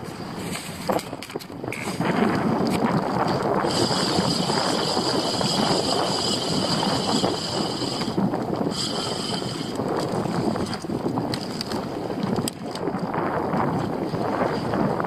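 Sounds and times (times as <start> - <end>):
water rushing against kayak: 0.0 - 15.0
wind buffeting microphone: 0.0 - 15.0.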